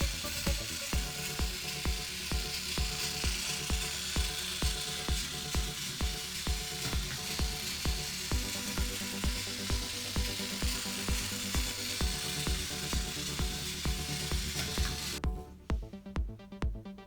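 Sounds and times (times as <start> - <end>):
music with kick-drum beat: 0.0 - 17.0.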